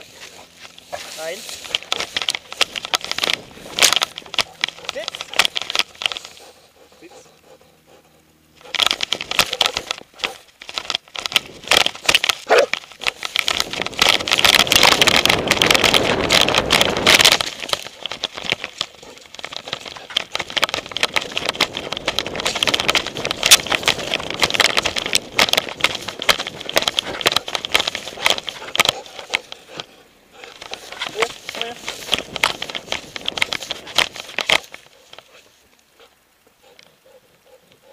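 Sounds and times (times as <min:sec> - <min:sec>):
camera knocking and rattling: 0:00.0 - 0:06.6, 0:08.6 - 0:35.6.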